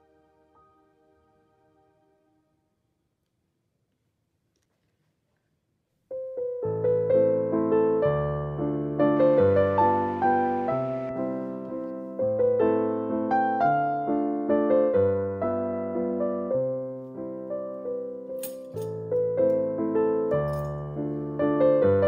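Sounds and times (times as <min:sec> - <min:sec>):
gentle piano music: 0:00.0 - 0:02.6, 0:06.1 - 0:22.0.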